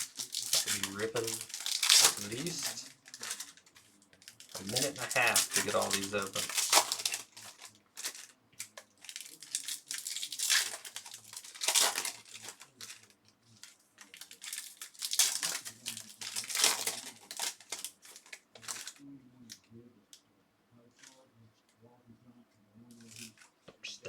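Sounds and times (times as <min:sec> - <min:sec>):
foil wrappers tearing and crinkling: 0:00.0 - 0:19.0, 0:22.9 - 0:23.4.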